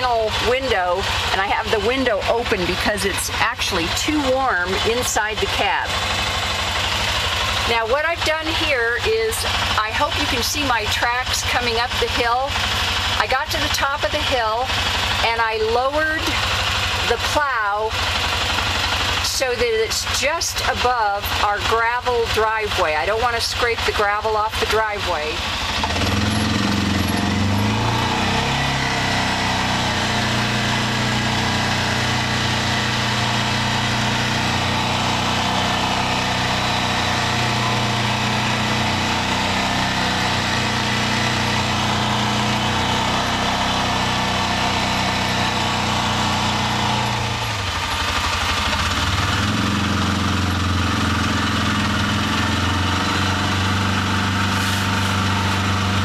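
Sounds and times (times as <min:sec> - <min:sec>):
plow pushing snow: 0:00.0 - 0:56.0
utility vehicle engine running: 0:00.0 - 0:56.0.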